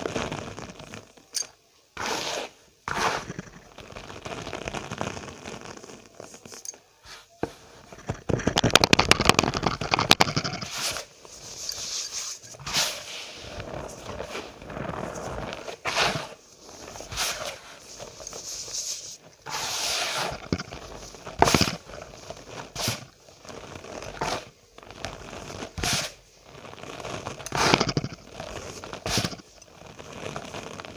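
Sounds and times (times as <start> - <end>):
cornstarch powder crunching: 0.0 - 30.9.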